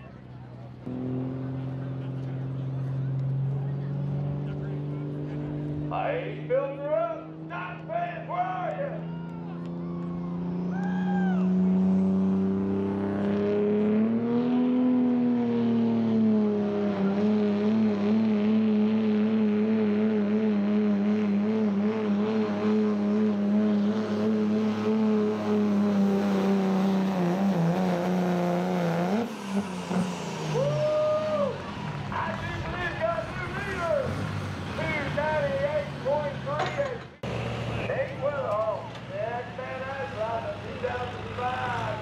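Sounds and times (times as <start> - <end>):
diesel truck engine under load: 0.0 - 7.6, 9.0 - 42.0.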